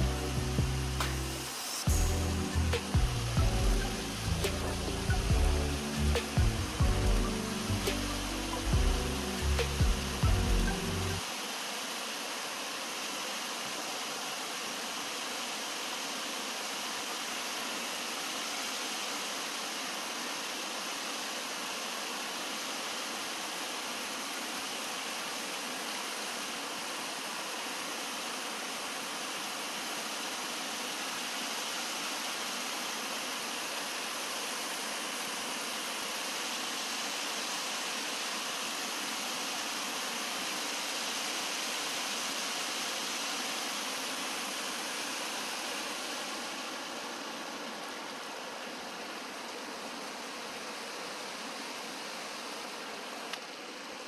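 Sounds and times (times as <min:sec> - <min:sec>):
stream water rushing over rocks: 0:00.0 - 0:54.0.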